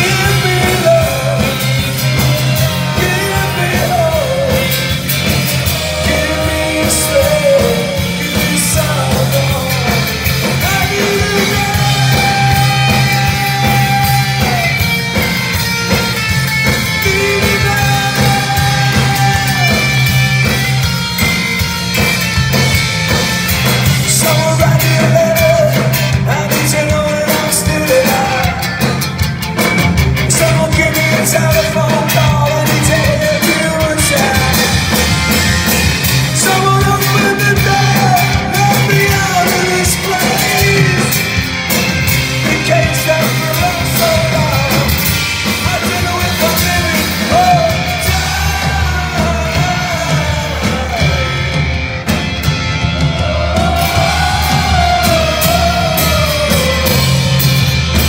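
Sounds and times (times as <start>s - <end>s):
person singing: 0.0s - 15.4s, 16.8s - 20.2s, 23.9s - 29.0s, 30.2s - 41.4s, 42.3s - 51.7s, 52.9s - 58.0s
live rock band playing: 0.0s - 58.0s.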